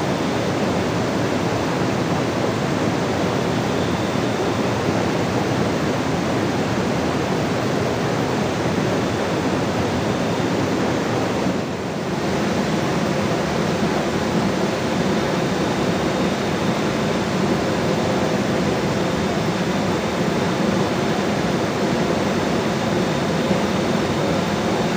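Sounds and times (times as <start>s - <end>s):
loud rushing water: 0.0s - 24.9s.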